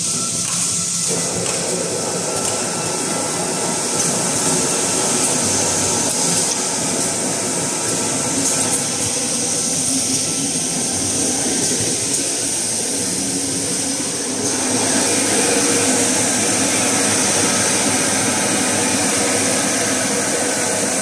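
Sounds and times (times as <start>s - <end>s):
high hiss: 0.0s - 21.0s
paper roll machine running: 0.0s - 21.0s.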